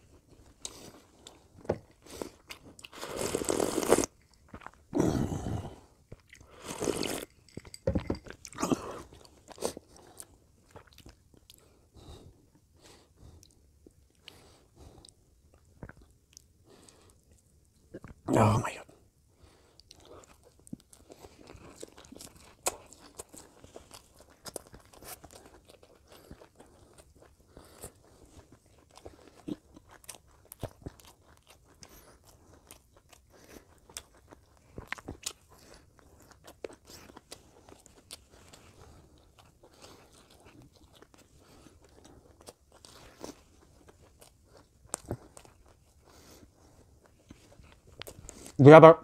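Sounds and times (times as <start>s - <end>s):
chewing and mouth sounds: 0.0s - 18.3s, 19.4s - 48.6s.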